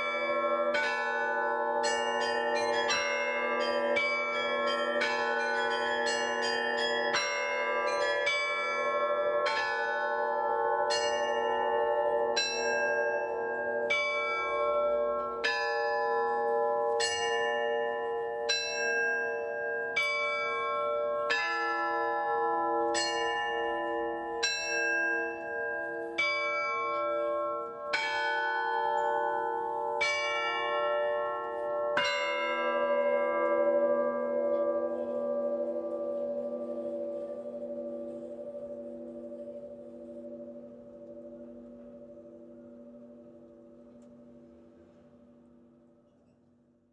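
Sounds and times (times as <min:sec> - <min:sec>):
bronze bells ringing: 0:00.0 - 0:44.9
deep heavy bell: 0:00.0 - 0:46.1.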